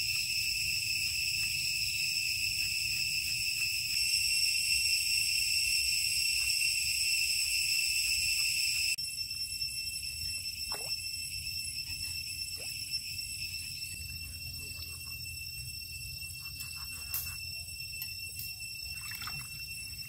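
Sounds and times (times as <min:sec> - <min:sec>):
forest insects droning: 0:00.0 - 0:20.0.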